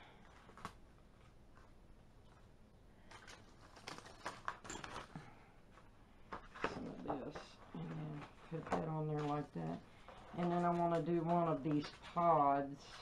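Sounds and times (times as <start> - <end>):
paper crinkling: 0.3 - 13.0.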